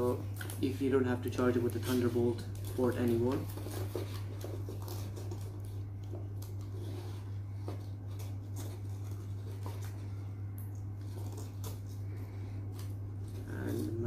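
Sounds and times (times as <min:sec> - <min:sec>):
cable rubbing and rustling: 0:00.0 - 0:14.0
steady low hum: 0:00.0 - 0:14.0.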